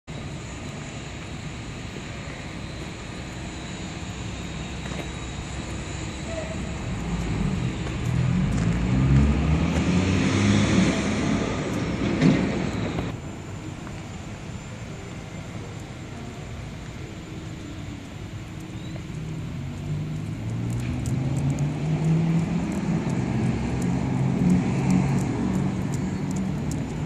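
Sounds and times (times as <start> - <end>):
street noise: 0.0 - 27.0
vehicle engine rumbling: 0.0 - 27.0.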